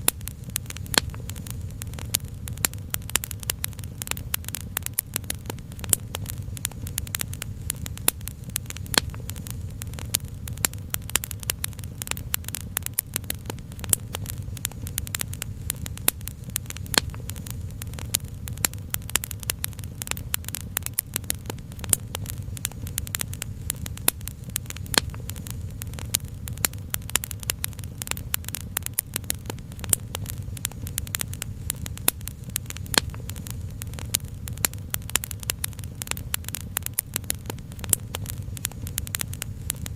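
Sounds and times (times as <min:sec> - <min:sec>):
low rumble: 0:00.0 - 0:36.6
wood fire crackling: 0:00.0 - 0:39.9.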